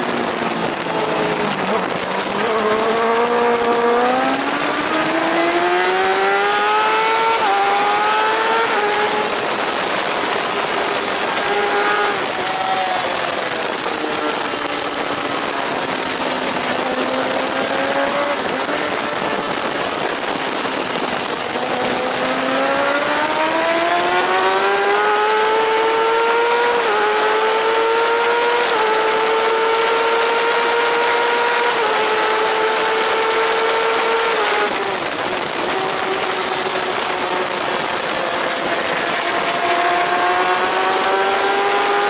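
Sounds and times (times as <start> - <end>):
heavy wind rush: 0.0 - 42.0
superbike engine at racing speed: 0.0 - 42.0.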